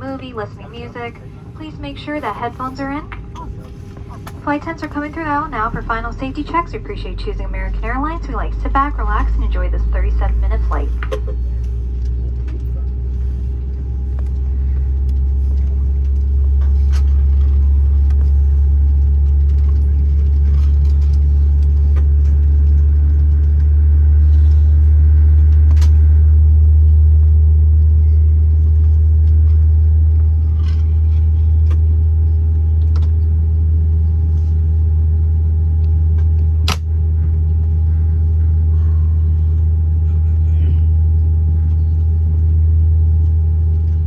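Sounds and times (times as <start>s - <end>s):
aircraft cabin low rumble: 0.0s - 44.0s
constant hum tone: 0.0s - 44.0s.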